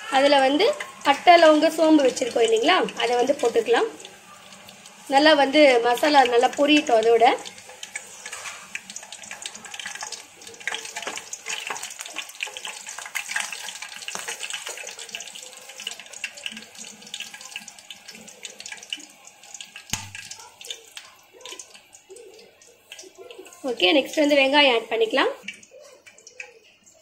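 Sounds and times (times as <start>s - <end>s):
spices sizzling in hot oil: 0.0s - 27.0s.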